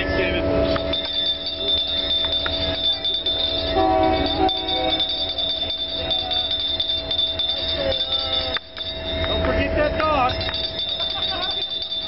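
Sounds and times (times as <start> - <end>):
crossing warning bell ringing: 0.0 - 12.0
train cars rumbling over rails: 0.0 - 12.0.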